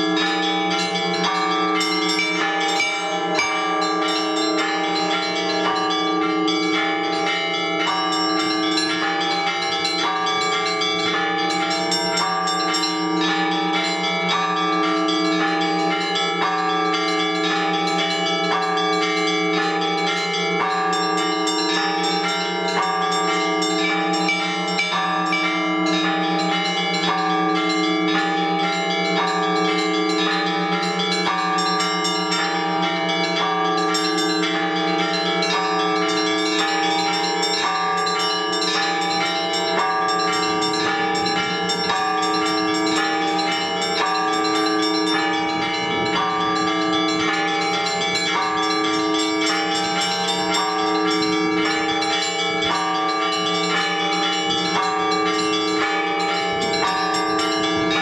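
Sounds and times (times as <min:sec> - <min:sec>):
large bells humming: 0:00.0 - 0:58.0
small church bells striking: 0:00.0 - 0:58.0.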